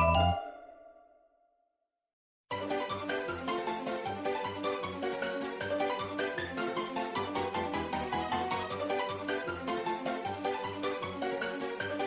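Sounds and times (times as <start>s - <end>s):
upbeat plucked melody music: 0.0s - 0.8s, 2.5s - 12.0s.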